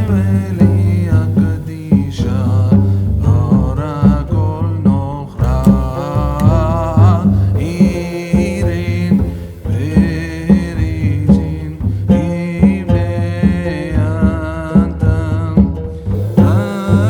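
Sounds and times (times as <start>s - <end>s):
music with beat and bass: 0.0s - 17.0s
person singing: 0.0s - 17.0s.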